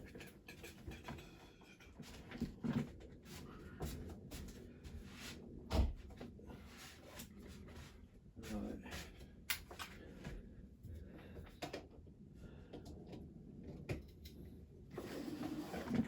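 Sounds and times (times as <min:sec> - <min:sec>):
hands working at a bench: 0:00.0 - 0:16.0.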